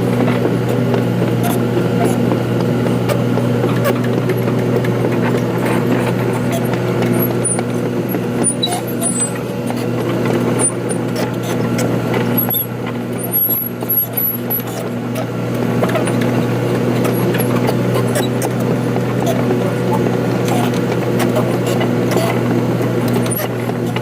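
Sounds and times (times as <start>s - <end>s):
excavator diesel engine throbbing: 0.0s - 24.0s.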